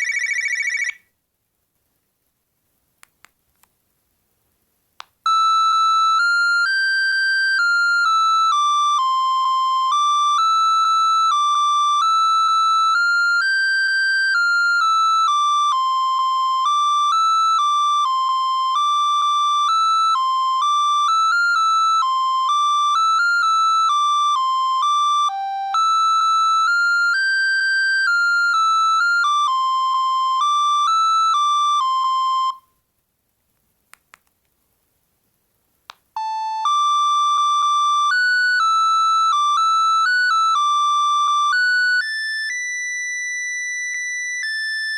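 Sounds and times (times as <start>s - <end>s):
electronic phone ringtone melody: 0.0s - 1.0s, 5.3s - 32.7s, 36.2s - 44.9s.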